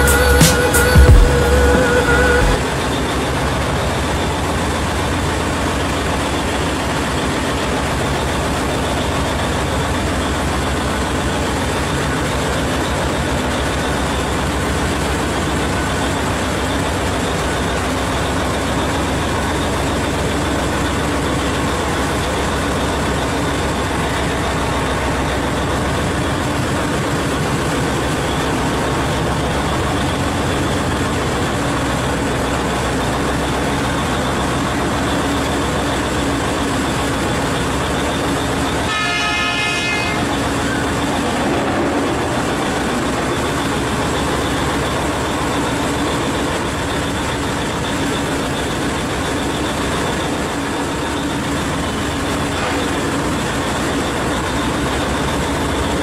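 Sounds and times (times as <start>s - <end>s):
diesel engine idling: 0.0s - 56.0s
heavy mining machinery running: 0.0s - 56.0s.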